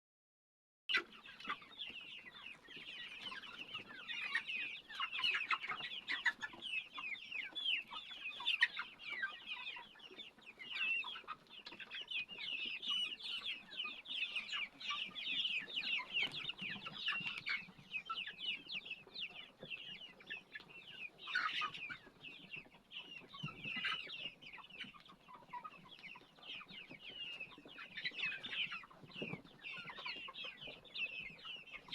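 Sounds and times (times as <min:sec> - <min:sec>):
chickens clucking: 0:00.9 - 0:31.9.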